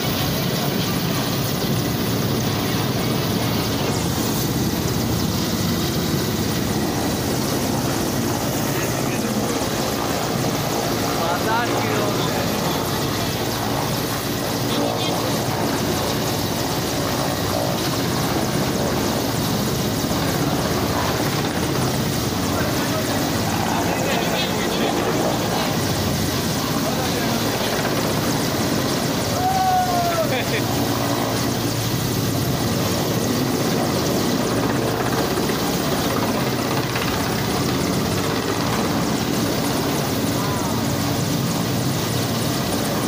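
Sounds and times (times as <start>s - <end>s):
helicopter flying low: 0.0s - 43.0s.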